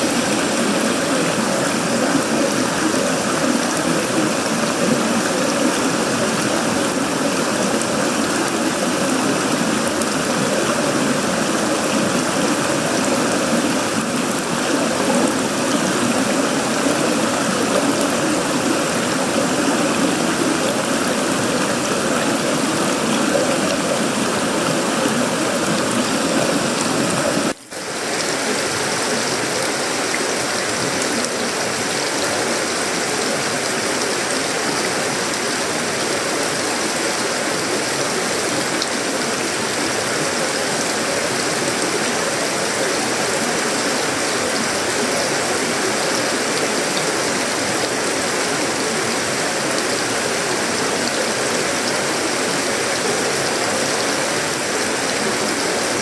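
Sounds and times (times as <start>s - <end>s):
heavy rain on metal roof: 0.0s - 56.0s.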